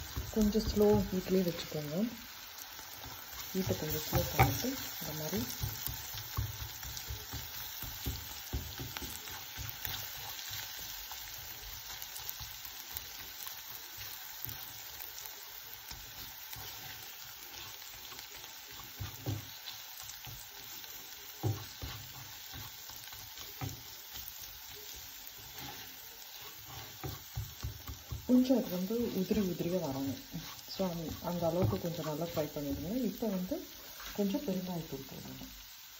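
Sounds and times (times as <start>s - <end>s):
spatula scraping and knocking pan: 0.0s - 1.7s, 2.9s - 15.0s, 15.7s - 34.4s
food sizzling in oil: 0.0s - 35.9s.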